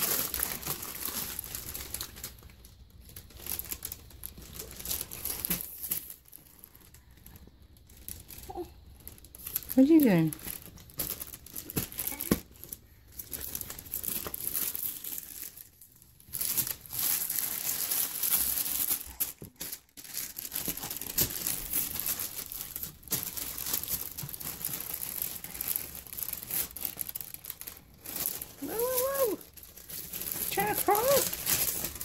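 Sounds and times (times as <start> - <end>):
paper sheet crinkling: 0.0 - 32.0.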